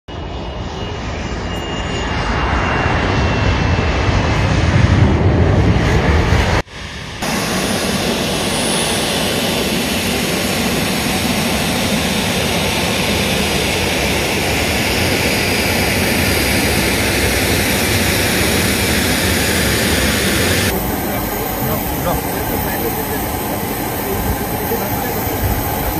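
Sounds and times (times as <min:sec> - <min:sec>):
jet engines running: 0:00.1 - 0:25.9.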